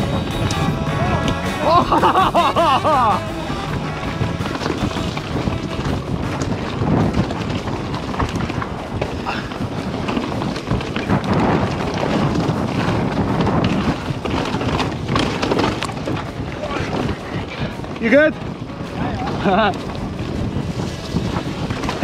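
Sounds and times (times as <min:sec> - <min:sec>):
bike rattling over bumps: 0:00.0 - 0:22.0
bike tyres rolling over dirt: 0:00.0 - 0:22.0
wind buffeting microphone: 0:00.0 - 0:22.0.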